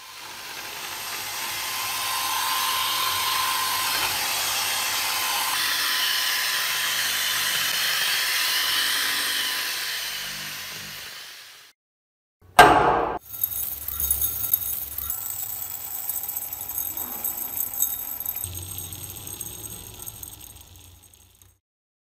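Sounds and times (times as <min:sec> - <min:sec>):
rotary power tool whirring: 0:00.0 - 0:11.6, 0:13.3 - 0:21.6.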